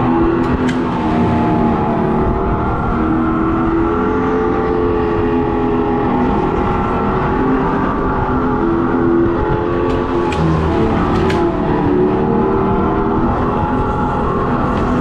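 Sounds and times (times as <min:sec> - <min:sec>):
go-kart rushing noise: 0:00.0 - 0:15.0.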